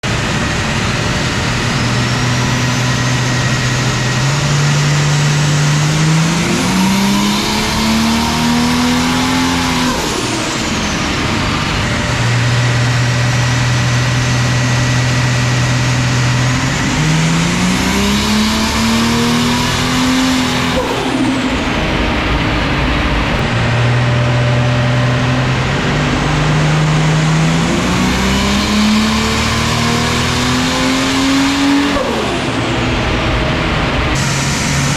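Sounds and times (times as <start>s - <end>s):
turbocharged engine revving: 0.0s - 34.9s.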